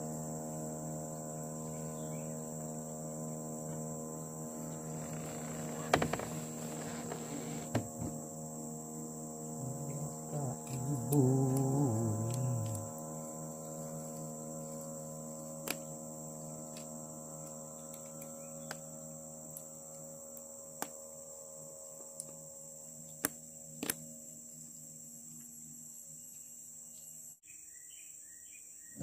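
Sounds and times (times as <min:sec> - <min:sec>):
low steady hum: 0:00.0 - 0:27.4
crickets chirping: 0:00.0 - 0:29.0.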